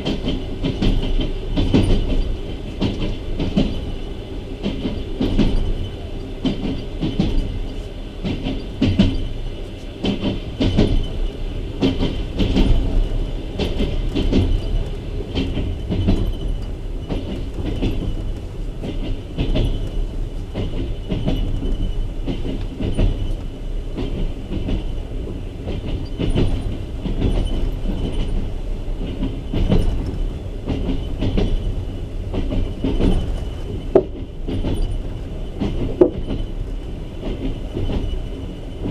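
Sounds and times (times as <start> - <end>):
train coach rumble: 0.0 - 38.9
wheels clattering over rail joints: 0.0 - 38.9.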